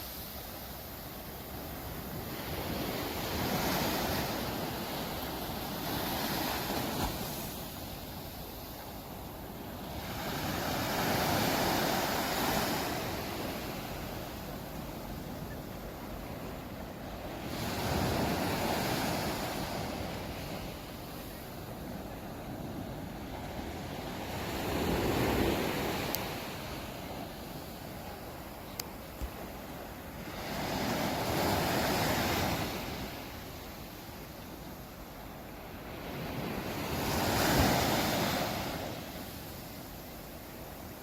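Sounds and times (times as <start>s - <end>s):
sea waves breaking on beach: 0.0s - 41.0s.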